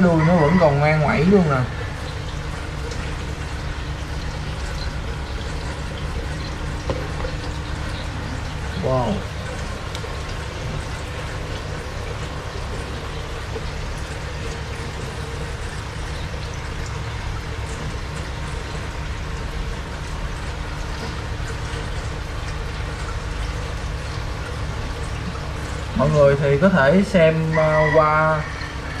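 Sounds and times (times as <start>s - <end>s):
low pump hum: 0.0s - 29.0s
water splashing and trickling: 0.0s - 29.0s.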